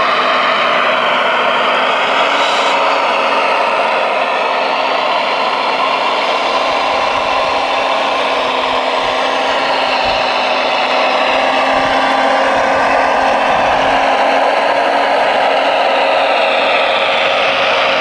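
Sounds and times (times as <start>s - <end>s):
model excavator motor whine: 0.0s - 18.0s.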